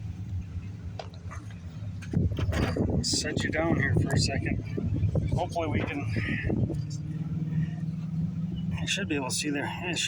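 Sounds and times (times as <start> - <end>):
traffic rumble: 0.0 - 10.0
wind: 0.0 - 10.0.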